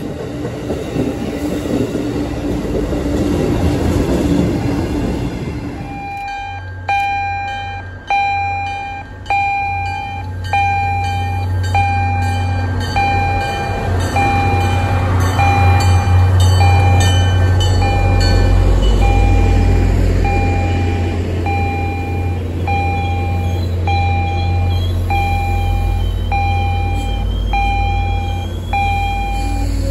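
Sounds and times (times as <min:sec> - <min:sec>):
diesel engine rumbling: 0:01.0 - 0:29.9
locomotive bell ringing: 0:05.8 - 0:29.9.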